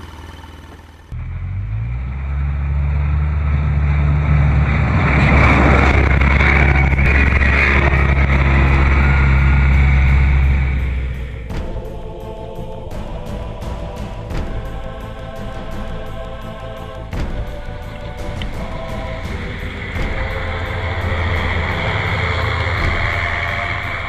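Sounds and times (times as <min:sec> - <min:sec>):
utility vehicle engine droning: 0:00.0 - 0:24.0.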